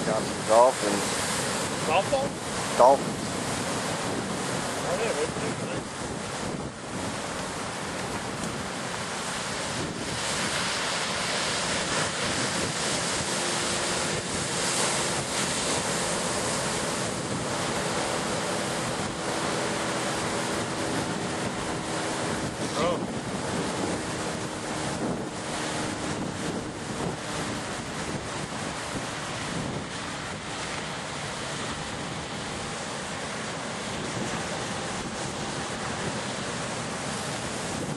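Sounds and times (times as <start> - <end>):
sea waves washing: 0.0 - 37.9
wind buffeting microphone: 0.0 - 37.9.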